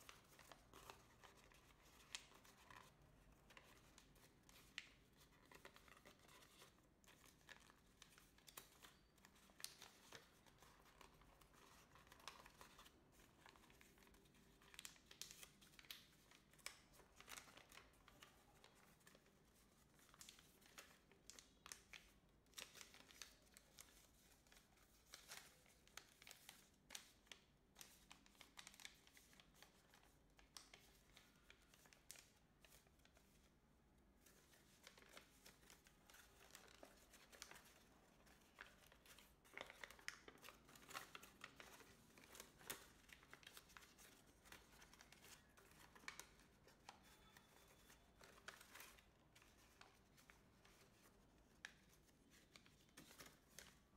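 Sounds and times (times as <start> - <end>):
paper crinkling and rustling: 0.0 - 53.9.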